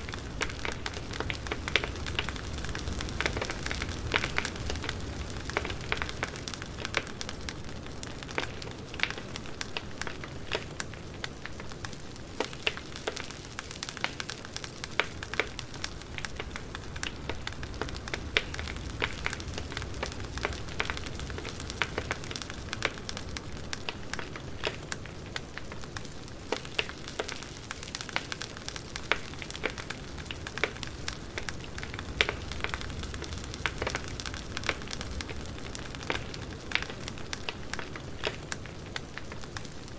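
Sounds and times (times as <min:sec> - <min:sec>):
low rush of flame: 0:00.0 - 0:39.9
wood crackling and popping: 0:00.0 - 0:39.9.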